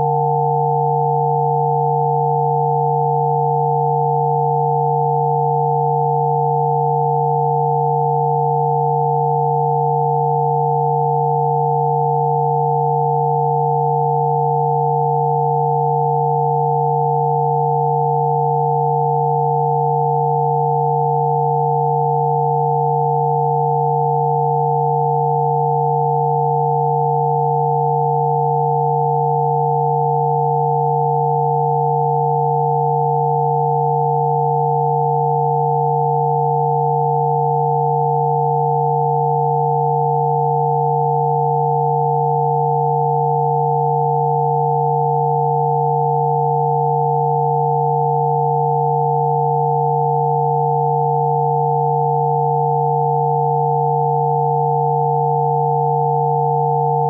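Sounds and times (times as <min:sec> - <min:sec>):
steady electronic sine tones: 0:00.0 - 0:57.0.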